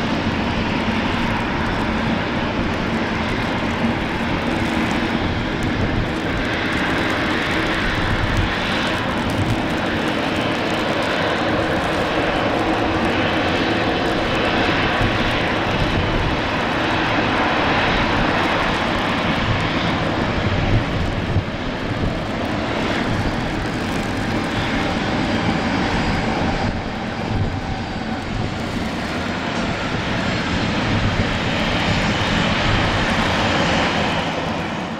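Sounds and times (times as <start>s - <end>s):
jet engines rushing whine: 0.0s - 34.9s.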